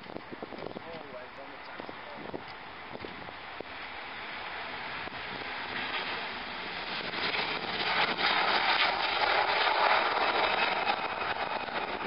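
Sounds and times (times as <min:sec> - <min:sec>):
jet engines at takeoff: 0:00.0 - 0:12.0.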